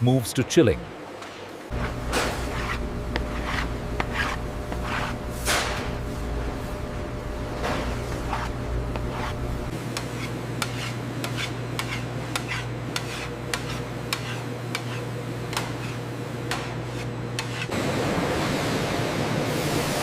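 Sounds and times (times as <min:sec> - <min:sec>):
low machine hum: 0:00.8 - 0:20.0.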